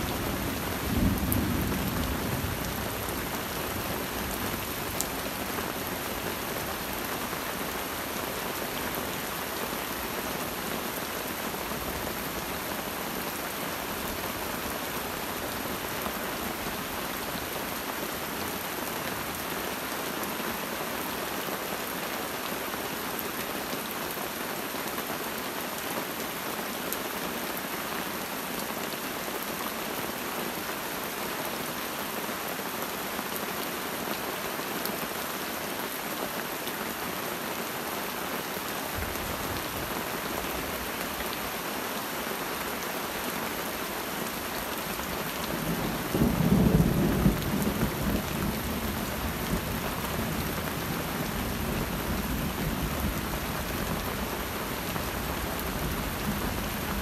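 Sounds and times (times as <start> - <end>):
steady rain in forest: 0.0 - 57.0.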